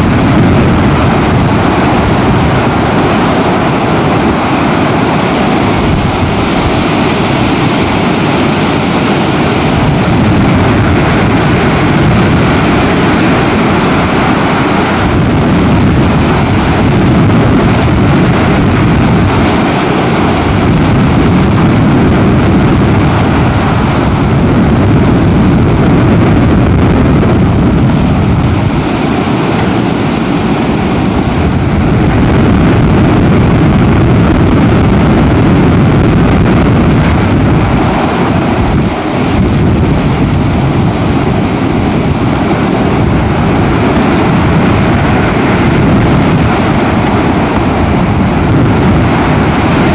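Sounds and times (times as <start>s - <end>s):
strong wind buffeting microphone: 0.0s - 49.9s.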